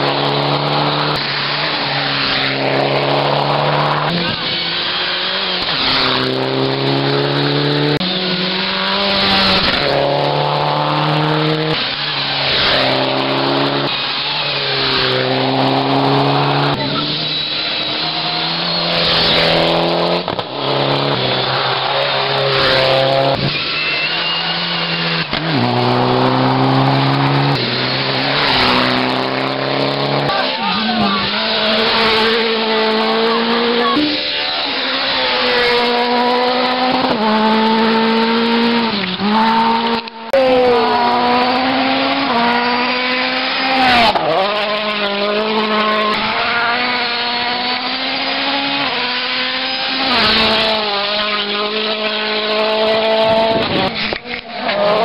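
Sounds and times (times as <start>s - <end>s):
rally car engine accelerating: 0.0s - 55.0s.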